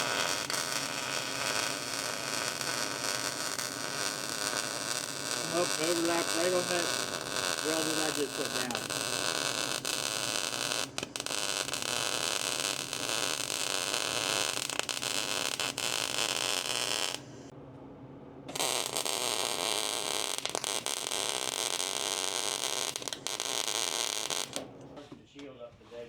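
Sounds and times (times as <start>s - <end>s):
welding arc crackling: 0.0s - 17.5s, 18.5s - 24.7s.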